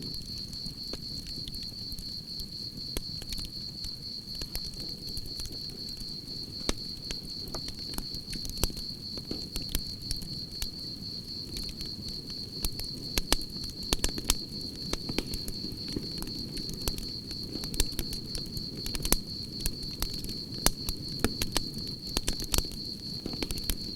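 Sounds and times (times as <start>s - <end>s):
campfire crackling and popping: 0.0s - 23.9s
crickets chirping: 0.0s - 23.9s.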